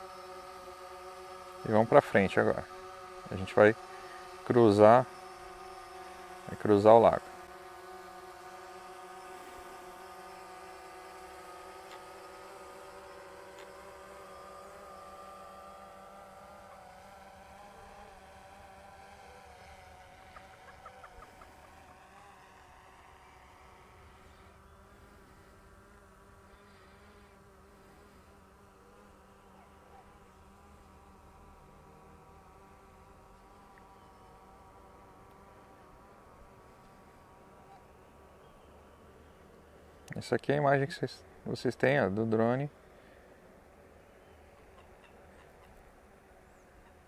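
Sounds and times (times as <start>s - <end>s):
drone propellers whining: 0.0s - 47.0s.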